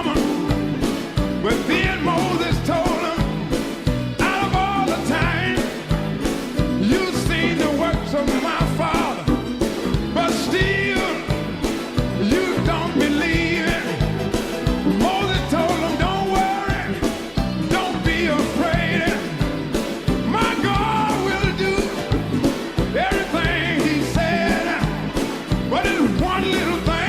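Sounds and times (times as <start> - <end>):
rock and roll song with singing: 0.0 - 27.0.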